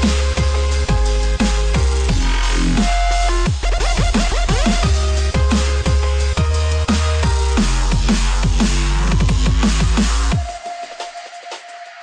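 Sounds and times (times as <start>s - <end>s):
dubstep with heavy bass: 0.0s - 12.0s.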